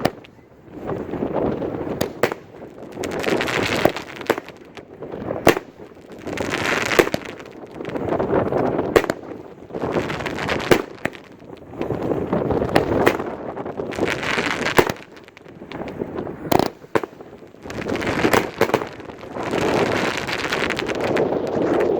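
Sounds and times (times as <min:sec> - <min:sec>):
firework crackling: 0:00.0 - 0:21.9
firework reports: 0:00.0 - 0:21.9.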